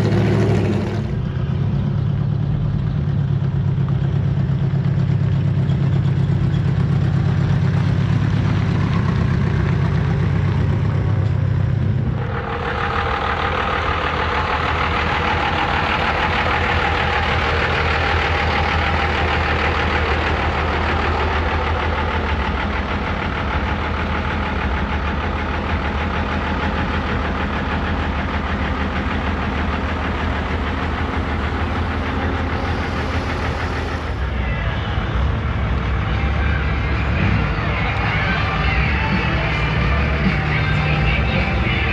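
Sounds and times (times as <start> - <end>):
hissing engine: 0.0 - 41.9
truck engine idling: 0.0 - 41.9.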